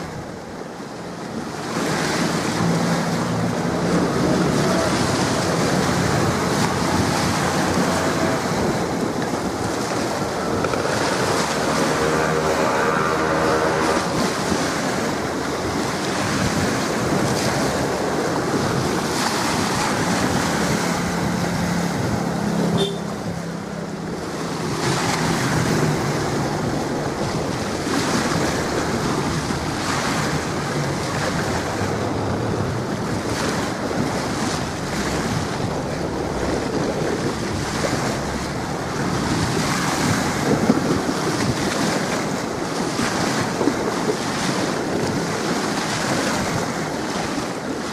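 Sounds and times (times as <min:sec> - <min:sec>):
water washing along shore: 0:00.0 - 0:47.9
wind buffeting microphone: 0:00.0 - 0:47.9.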